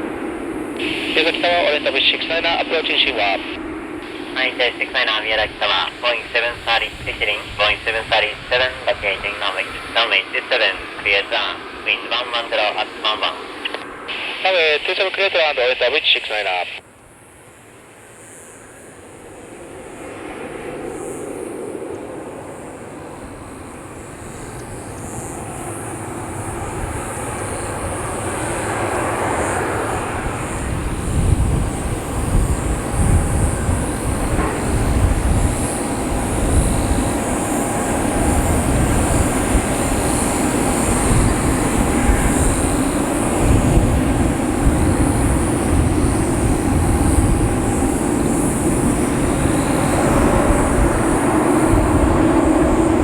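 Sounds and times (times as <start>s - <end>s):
turboprop airliner engine: 0.0s - 53.0s.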